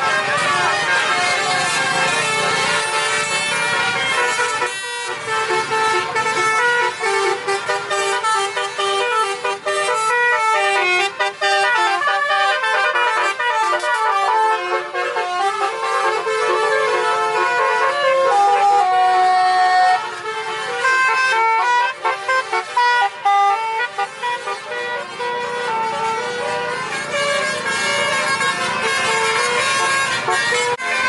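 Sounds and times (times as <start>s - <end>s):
bus musical horn tune: 0.0s - 31.0s.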